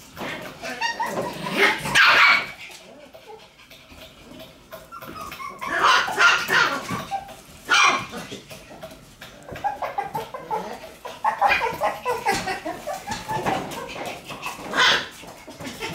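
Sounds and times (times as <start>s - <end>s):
puppies barking and yapping: 0.0s - 15.9s.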